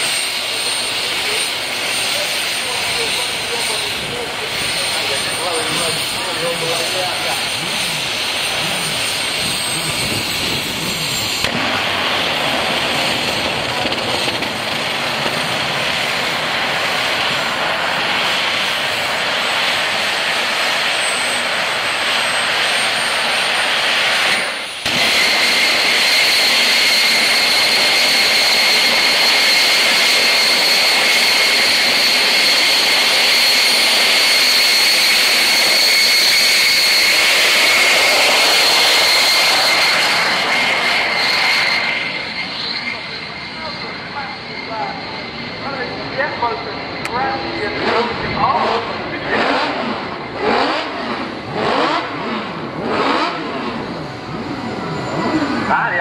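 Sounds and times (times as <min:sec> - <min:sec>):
turbojet engine roar and whine: 0:00.0 - 0:56.0.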